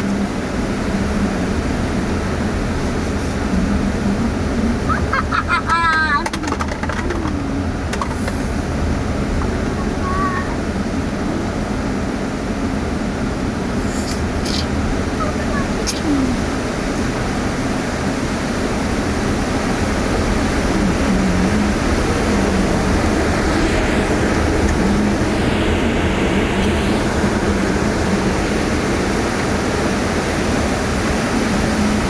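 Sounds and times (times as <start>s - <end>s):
car tyres and engine rumble: 0.0s - 32.0s
faint wavering hum: 0.0s - 32.0s.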